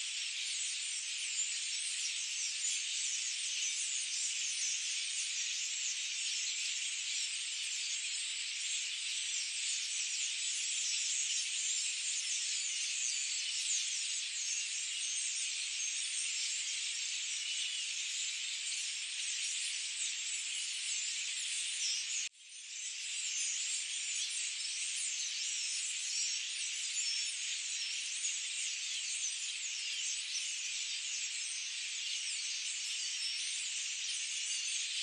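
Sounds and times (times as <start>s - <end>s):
forest chorus of chirps and trills: 0.0s - 35.0s.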